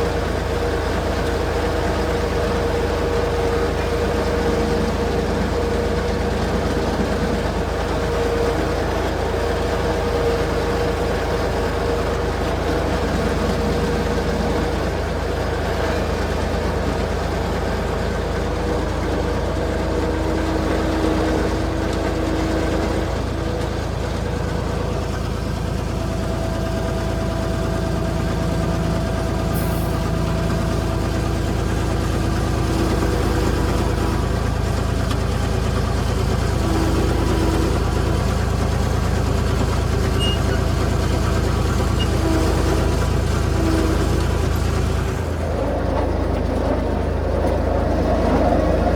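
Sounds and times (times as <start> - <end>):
faint tones shifting in pitch: 0.0 - 48.9
vehicle engine running: 0.0 - 48.9.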